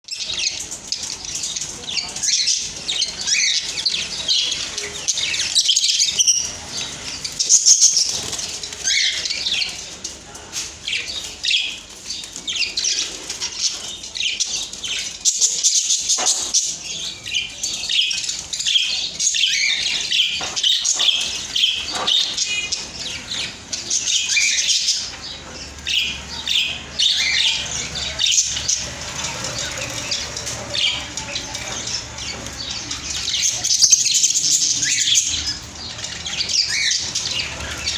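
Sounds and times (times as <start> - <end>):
budgerigars chirping: 0.1 - 37.9.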